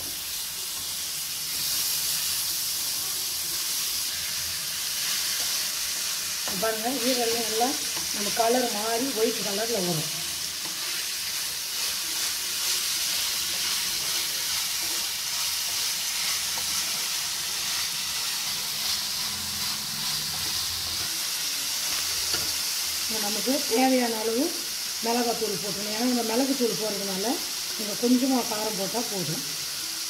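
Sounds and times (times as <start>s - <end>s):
liver frying in oil: 0.0s - 30.0s.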